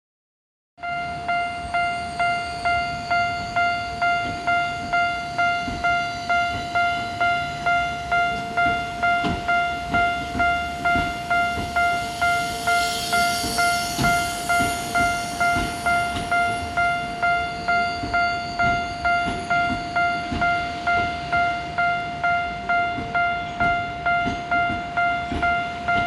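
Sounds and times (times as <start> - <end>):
level-crossing alarm bell ringing: 0.8 - 26.0.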